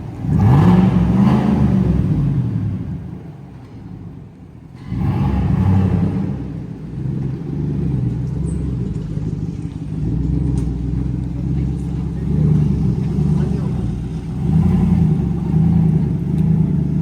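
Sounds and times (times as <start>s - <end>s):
truck engine through open exhaust: 0.0s - 17.0s.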